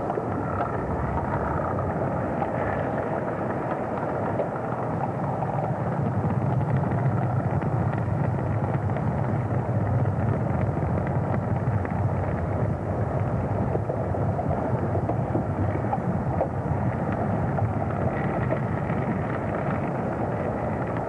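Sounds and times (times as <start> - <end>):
faint crackles: 0.0 - 21.0
underwater noisy rush: 0.0 - 21.0.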